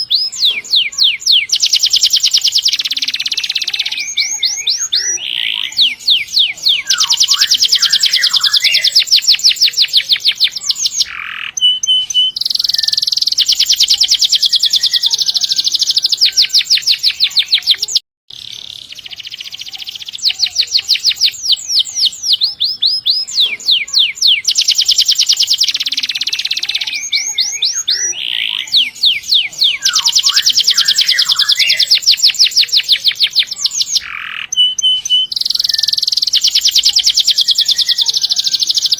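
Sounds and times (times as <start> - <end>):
canary singing in rolling trills: 0.0 - 38.9.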